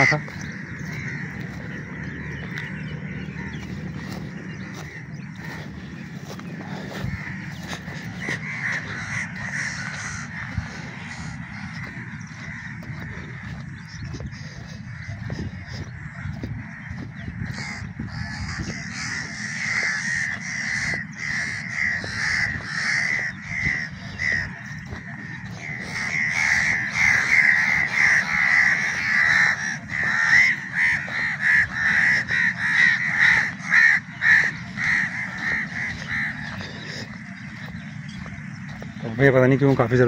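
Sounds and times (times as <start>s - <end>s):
crows cawing: 0.0s - 40.0s.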